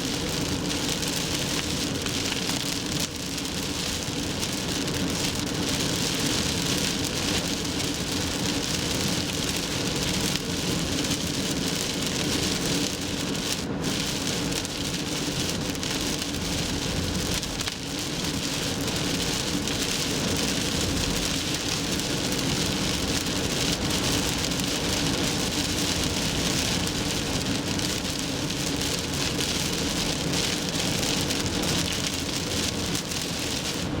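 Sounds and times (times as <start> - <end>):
rain and tyre spray hiss: 0.0 - 34.0
car engine and road hum: 0.2 - 34.0.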